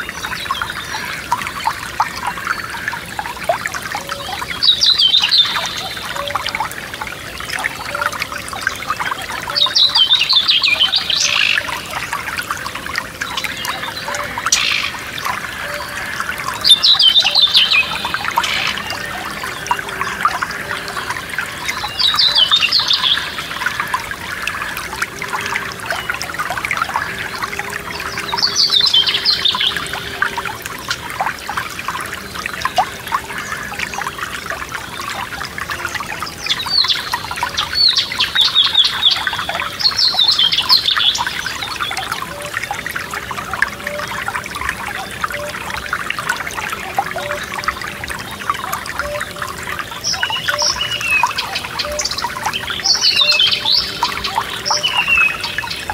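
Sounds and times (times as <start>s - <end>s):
stream trickling and splashing: 0.0s - 55.9s.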